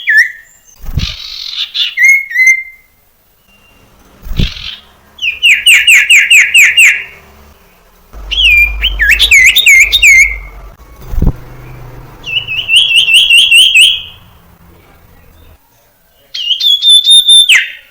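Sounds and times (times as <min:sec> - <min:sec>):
bird singing whistled notes: 0:00.0 - 0:07.1, 0:08.2 - 0:14.3, 0:16.2 - 0:17.9.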